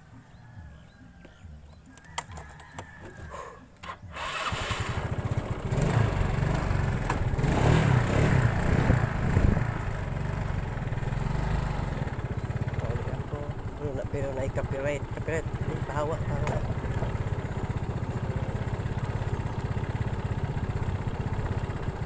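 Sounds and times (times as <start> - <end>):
small vehicle engine running: 3.8 - 22.0.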